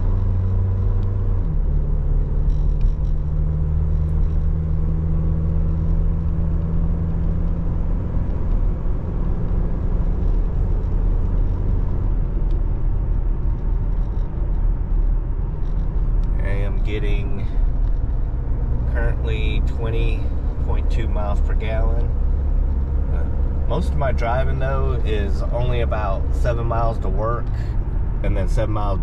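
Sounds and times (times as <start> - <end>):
truck engine accelerating: 0.0 - 29.0.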